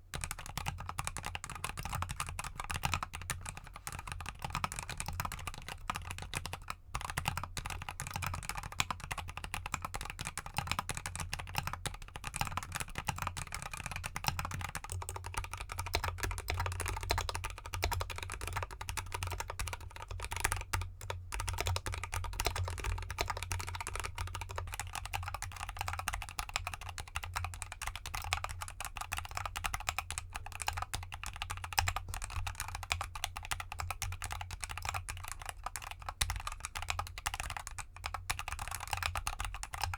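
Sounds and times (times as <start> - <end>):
fast mechanical keyboard typing: 0.1 - 39.9.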